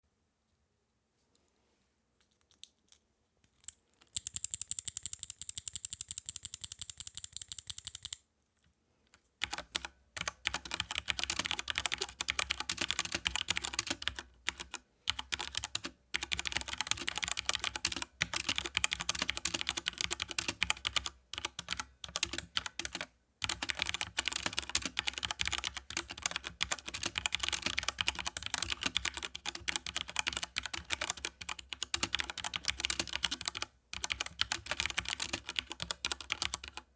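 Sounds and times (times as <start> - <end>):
typing on mechanical keyboard: 4.2 - 8.2, 9.4 - 36.9.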